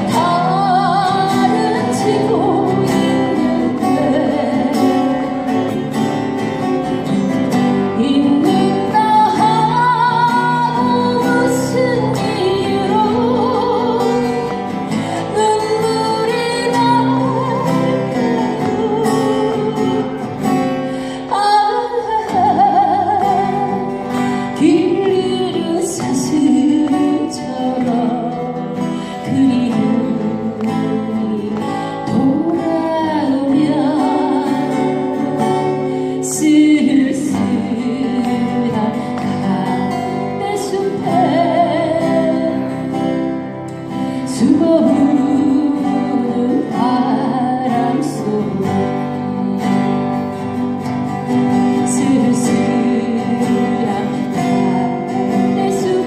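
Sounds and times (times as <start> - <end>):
acoustic guitar: 0.0 - 56.0
person singing with vibrato: 0.0 - 56.0.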